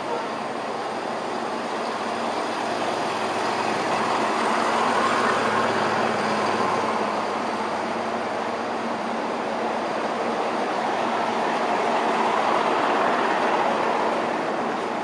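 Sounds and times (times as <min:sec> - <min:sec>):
diesel railcar engine: 0:00.0 - 0:15.0
train rolling noise: 0:00.0 - 0:15.0.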